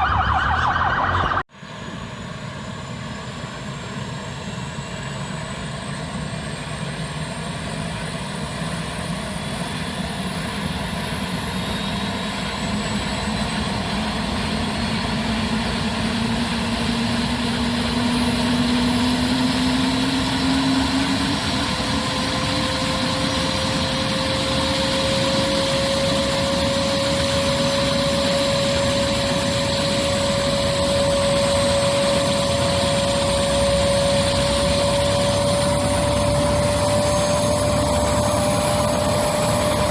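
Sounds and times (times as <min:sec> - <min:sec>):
helicopter turbine engine whine: 0:00.0 - 0:39.9.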